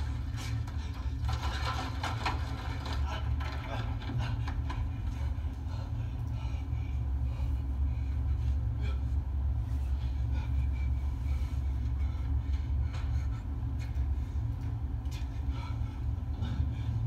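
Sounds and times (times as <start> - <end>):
low rumbling ambient drone: 0.0 - 17.0.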